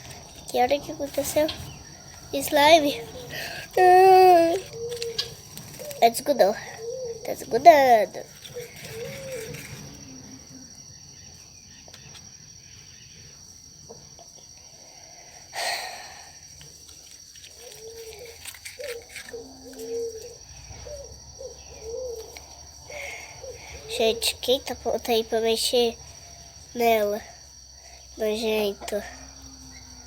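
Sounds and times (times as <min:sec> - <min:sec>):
cricket trilling: 0:00.0 - 0:30.0.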